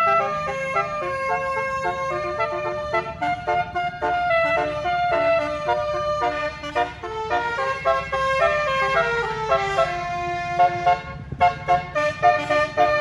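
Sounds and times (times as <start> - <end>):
horn playing melody: 0.0 - 13.0.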